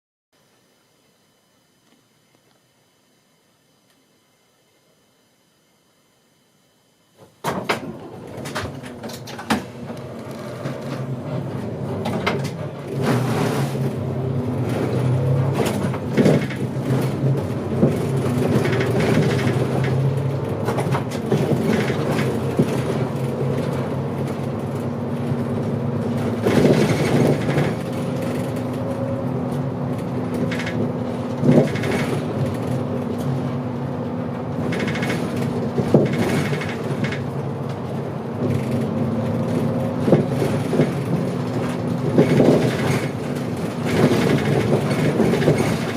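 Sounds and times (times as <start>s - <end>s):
bus diesel engine drone: 7.1s - 45.9s
bus body knocks and rattles: 7.3s - 45.9s.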